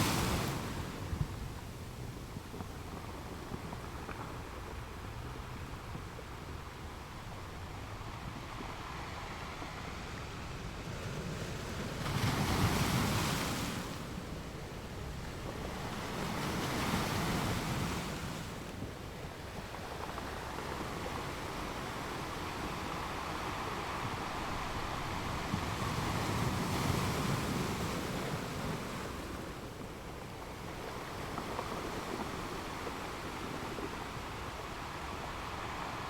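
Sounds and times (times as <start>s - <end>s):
sea waves washing in: 6.9s - 36.0s.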